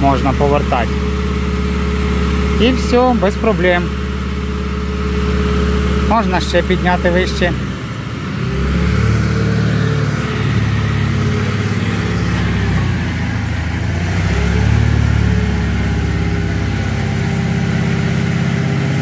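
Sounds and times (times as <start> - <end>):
small engine running under load: 0.0 - 19.0.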